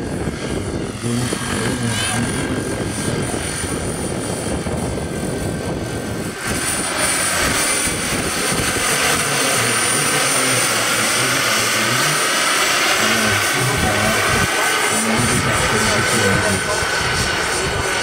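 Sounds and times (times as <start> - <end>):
model helicopter flying: 0.0 - 18.0.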